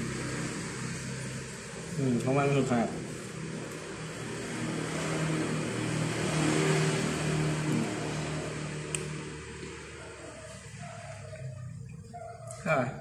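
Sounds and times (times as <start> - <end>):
motor vehicle passing by: 0.0 - 13.0.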